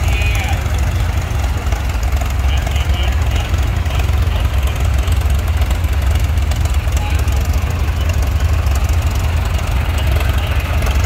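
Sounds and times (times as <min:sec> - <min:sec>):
faint crowd talk: 0:00.0 - 0:11.0
tractor engine pulsing: 0:00.0 - 0:11.0.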